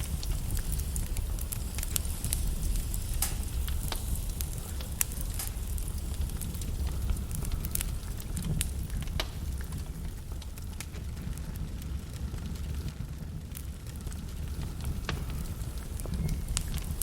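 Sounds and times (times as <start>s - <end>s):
burning logs crackling: 0.0s - 17.0s.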